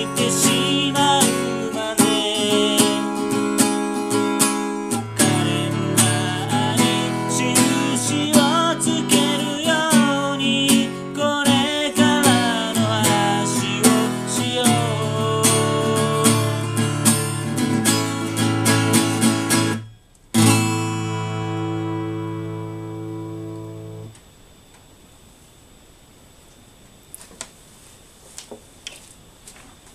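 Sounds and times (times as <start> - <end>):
acoustic guitar strumming: 0.0 - 24.2
guitar chord ringing: 0.0 - 24.2.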